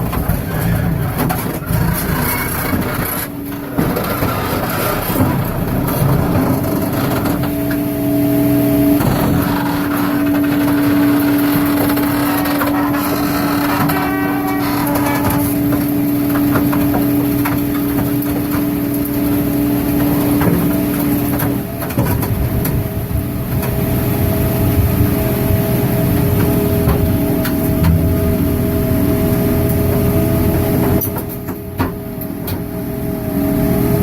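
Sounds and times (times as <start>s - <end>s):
baler machinery running: 0.0s - 34.0s
steady machine whine: 0.0s - 34.0s.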